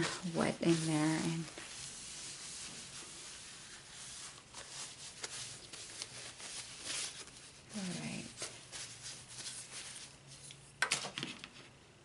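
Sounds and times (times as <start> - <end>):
paper tissue rustling and rubbing: 0.0 - 10.8.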